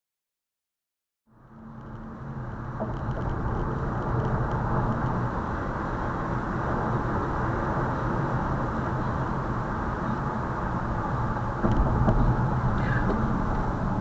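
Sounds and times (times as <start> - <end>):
car road and engine noise: 1.3 - 14.0.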